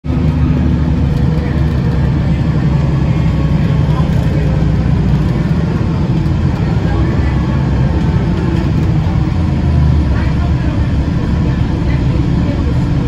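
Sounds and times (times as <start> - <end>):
bus engine running: 0.0 - 13.0
tyre and road noise: 0.0 - 13.0.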